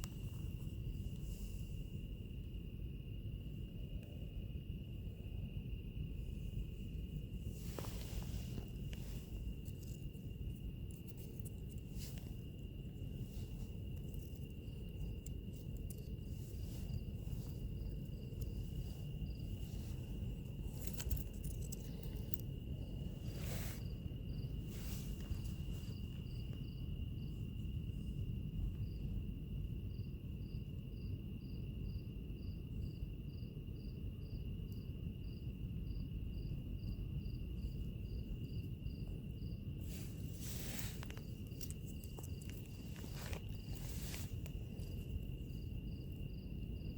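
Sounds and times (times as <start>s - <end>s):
cricket chirping: 0.0s - 46.9s
low rumble of burning: 0.0s - 46.9s.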